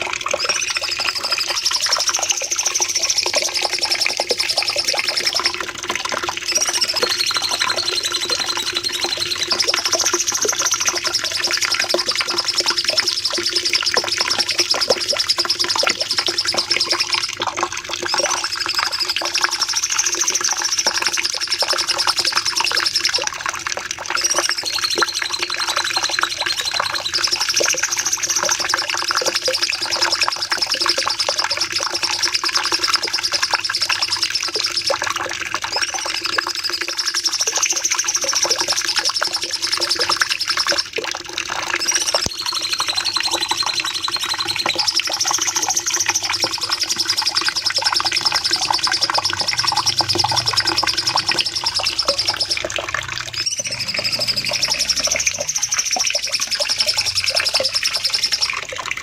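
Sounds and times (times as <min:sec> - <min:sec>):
bird singing rapid chirps and trills: 0:00.0 - 0:40.9, 0:41.6 - 0:58.8.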